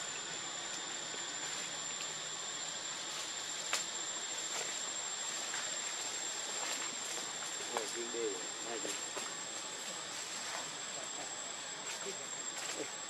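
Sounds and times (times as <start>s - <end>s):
steady outdoor hiss: 0.0s - 13.0s
thin high whine: 0.0s - 13.0s.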